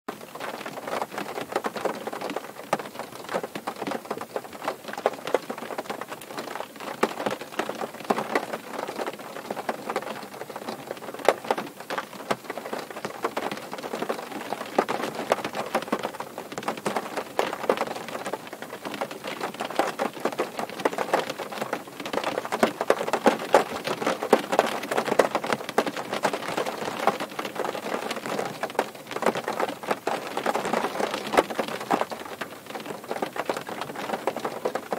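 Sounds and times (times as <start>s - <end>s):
rain pattering on a car: 0.1s - 34.9s.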